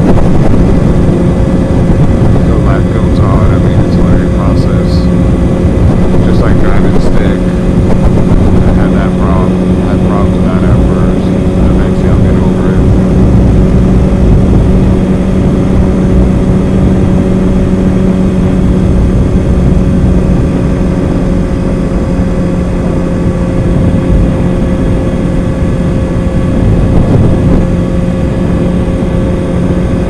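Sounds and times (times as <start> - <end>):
motorcycle engine cruising: 0.0 - 30.0
wind buffeting microphone: 0.0 - 30.0.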